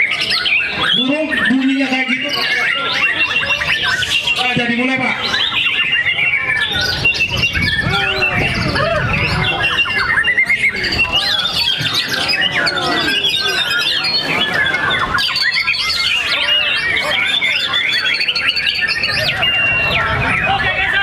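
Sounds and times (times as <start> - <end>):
birds singing whistles and trills: 0.0 - 21.0.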